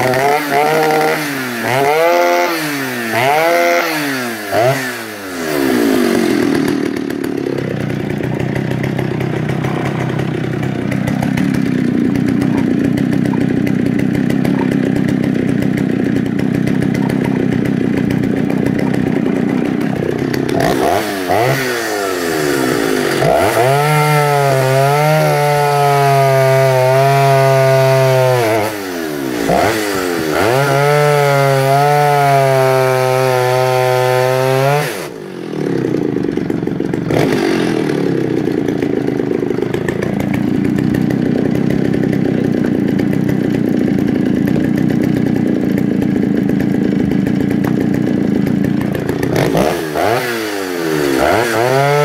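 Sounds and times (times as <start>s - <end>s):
chainsaw cutting a log: 0.0s - 52.0s.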